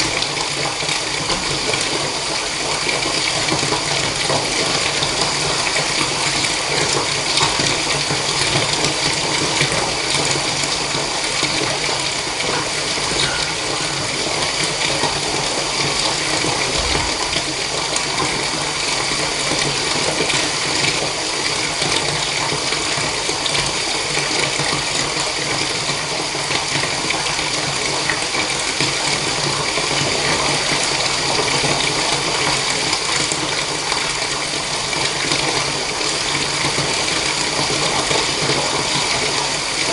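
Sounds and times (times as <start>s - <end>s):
tap water pouring into bathtub: 0.0s - 39.9s.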